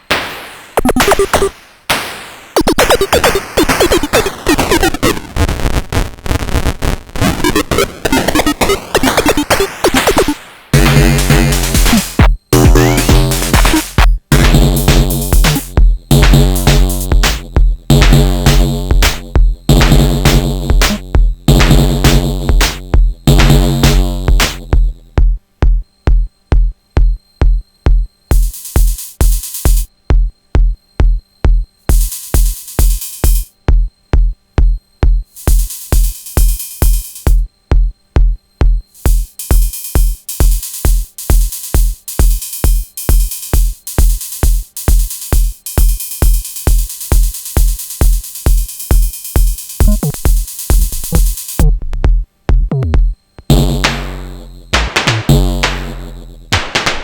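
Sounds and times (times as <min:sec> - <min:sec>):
hi-hat percussion: 0:00.0 - 0:05.1, 0:07.4 - 0:57.0
drum machine kick: 0:00.0 - 0:05.4, 0:07.2 - 0:57.0.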